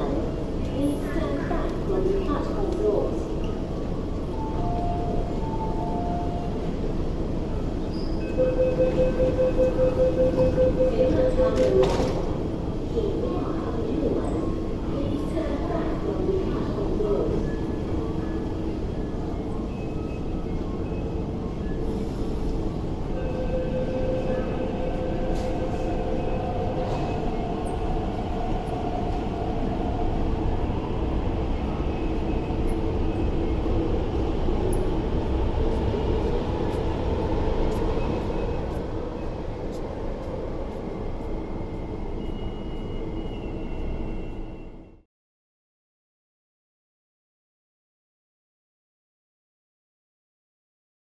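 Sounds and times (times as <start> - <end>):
train wheels rumbling on rail: 0.0 - 44.9.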